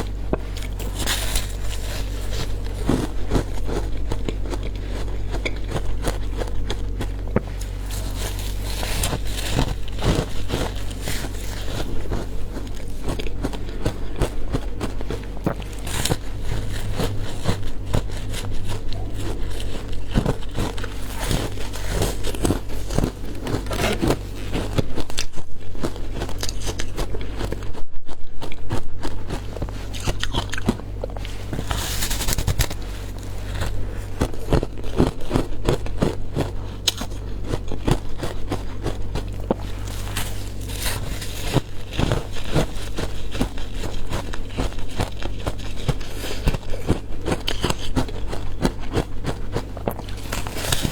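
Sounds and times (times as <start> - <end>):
ice crunching while chewed: 0.0 - 50.9
steady low hum: 0.0 - 50.9.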